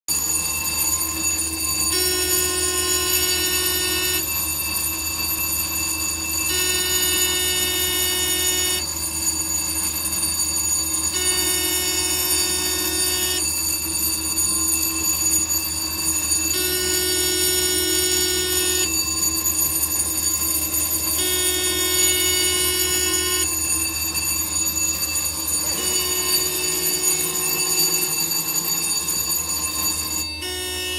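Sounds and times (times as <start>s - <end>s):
locomotive cab alarm tone: 0.1s - 30.9s
locomotive electrical hum: 0.7s - 30.9s.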